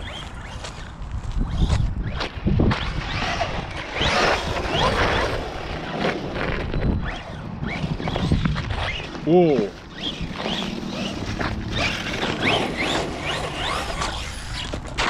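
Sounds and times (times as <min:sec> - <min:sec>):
electric motor whining: 0:00.0 - 0:15.0
tyres on loose dirt: 0:00.0 - 0:15.0.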